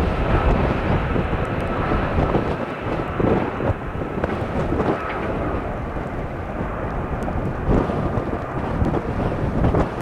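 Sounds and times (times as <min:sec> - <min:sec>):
jet engines low rumble: 0:00.0 - 0:10.0
wind buffeting microphone: 0:00.0 - 0:10.0.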